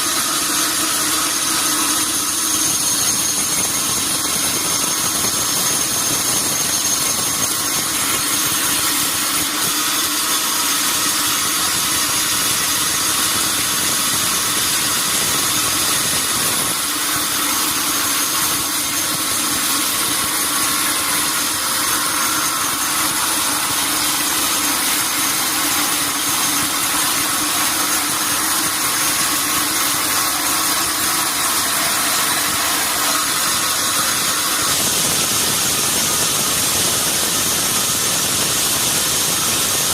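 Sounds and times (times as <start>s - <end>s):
sawmill saw machinery running: 0.0s - 39.9s.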